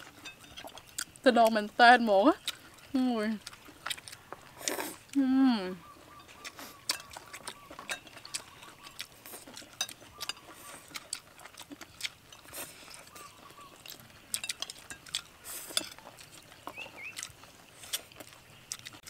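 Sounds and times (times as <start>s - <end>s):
chewing and lip smacks: 0.0s - 1.6s, 2.3s - 5.2s, 5.8s - 19.0s.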